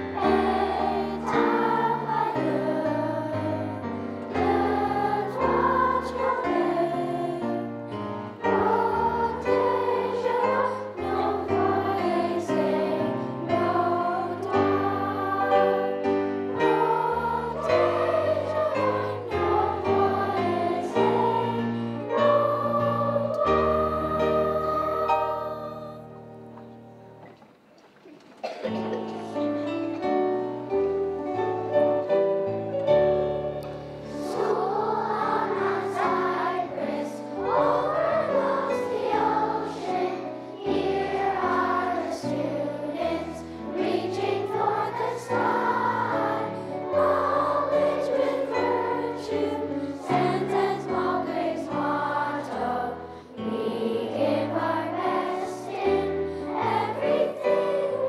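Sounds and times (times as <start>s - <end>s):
group of voices singing: 0.0s - 26.2s, 34.0s - 58.0s.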